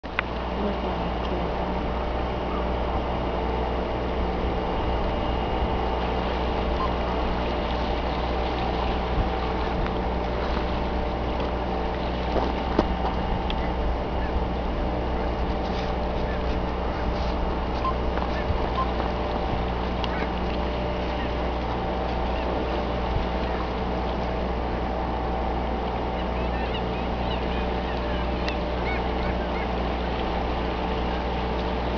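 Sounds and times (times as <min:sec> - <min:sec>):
boat engine humming: 0:00.0 - 0:31.9
low mechanical drone: 0:00.0 - 0:31.9.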